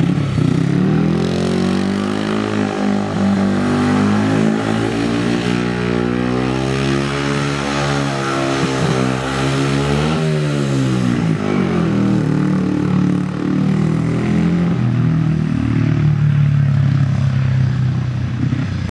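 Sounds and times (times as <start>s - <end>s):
motorcycle engine running hard: 0.0s - 18.9s.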